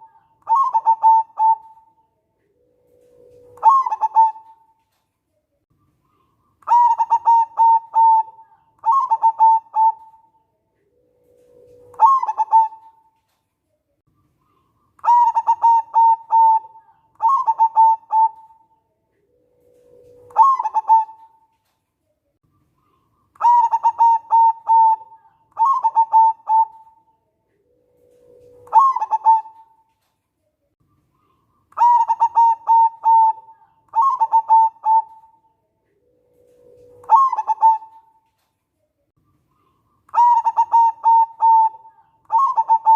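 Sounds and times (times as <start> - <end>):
dove cooing: 0.0 - 4.8, 6.1 - 13.2, 14.5 - 21.6, 22.8 - 29.9, 31.2 - 38.2, 39.6 - 42.9.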